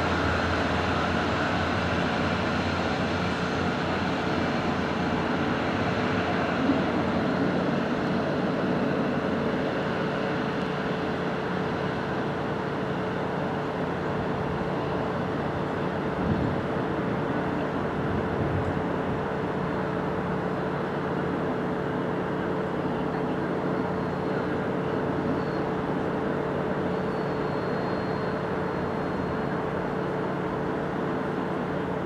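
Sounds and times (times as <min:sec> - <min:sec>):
diesel train engine hum: 0:00.0 - 0:32.0
faint high whine: 0:00.0 - 0:32.0.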